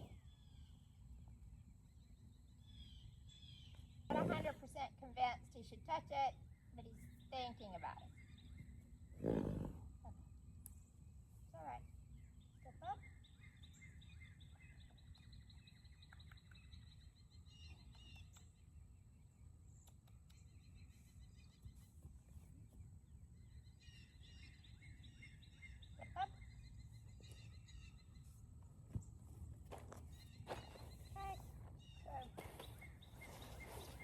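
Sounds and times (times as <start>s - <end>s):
small birds chirping: 0.0s - 4.6s, 6.2s - 34.0s.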